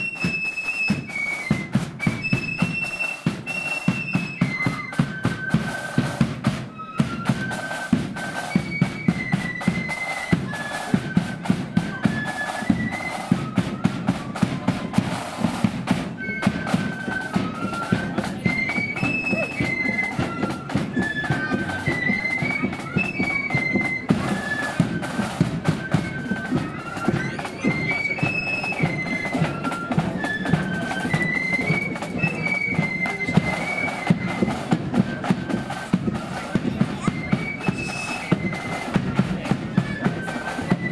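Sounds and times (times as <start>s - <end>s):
high flute melody: 0.0s - 40.9s
marching drum beat: 0.0s - 40.9s.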